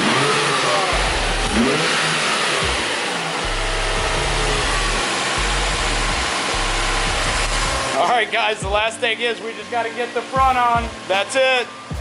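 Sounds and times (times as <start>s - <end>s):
car engine revving and running: 0.0s - 12.0s.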